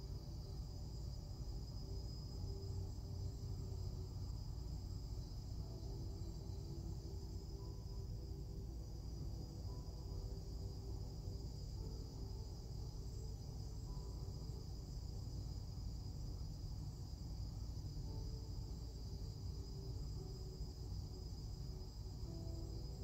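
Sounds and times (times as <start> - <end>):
faint sustained music notes: 0.0 - 23.0
high-pitched chirring hum: 0.0 - 23.0.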